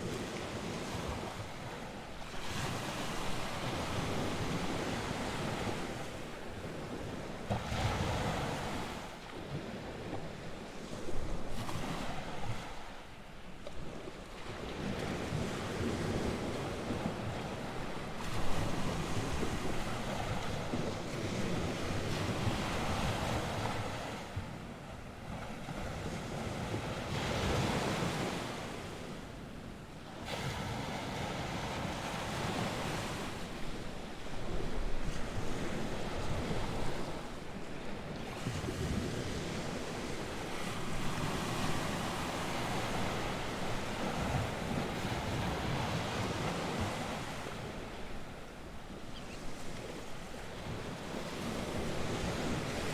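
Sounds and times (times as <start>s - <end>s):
waves breaking on shore: 0.0s - 52.9s.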